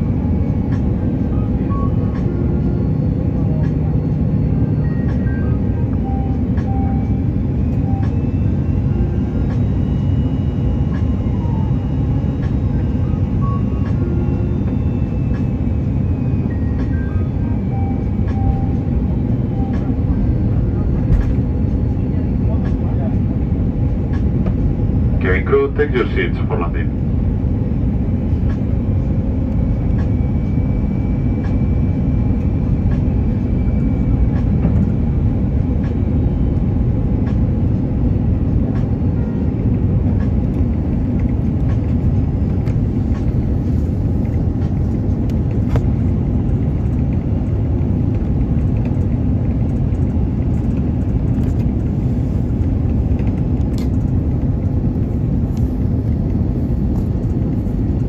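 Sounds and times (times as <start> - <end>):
jet engine rumble inside cabin: 0.0 - 58.0.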